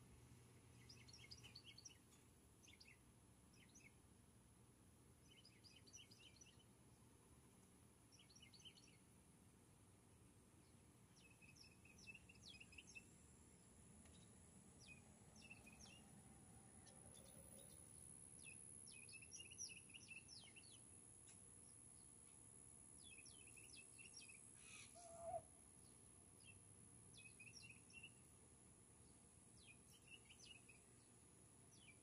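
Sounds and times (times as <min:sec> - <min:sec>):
small birds chirping: 0:00.7 - 0:04.0, 0:05.2 - 0:06.7, 0:08.1 - 0:09.1, 0:10.6 - 0:22.4, 0:23.0 - 0:28.3, 0:29.0 - 0:32.0.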